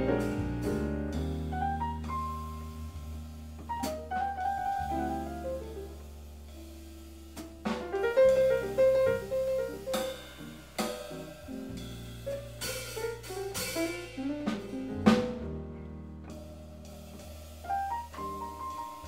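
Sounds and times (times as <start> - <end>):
bass: 0.0 - 19.0
drum kit snare and cymbal hits: 0.0 - 19.0
piano: 0.0 - 19.0.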